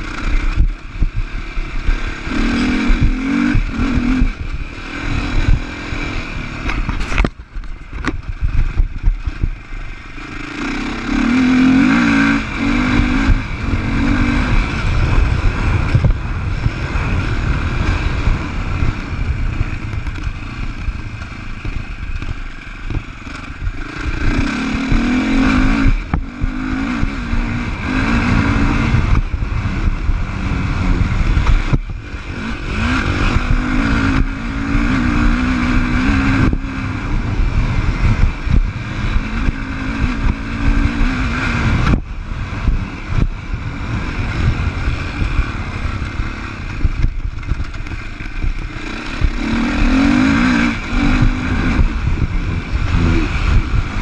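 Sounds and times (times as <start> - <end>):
motorcycle engine revving: 0.0 - 54.0
wind rumble on microphone: 0.0 - 54.0.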